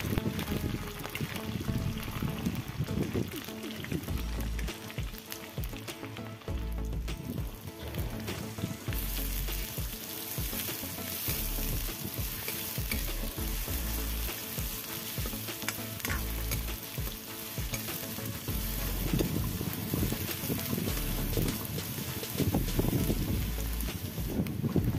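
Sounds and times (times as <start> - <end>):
onions sizzling in oil: 0.0 - 24.9.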